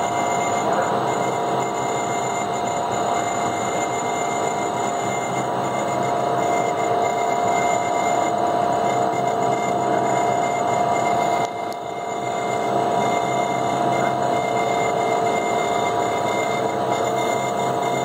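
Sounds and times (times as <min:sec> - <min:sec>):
mixer motor humming and whining: 0:00.0 - 0:18.0.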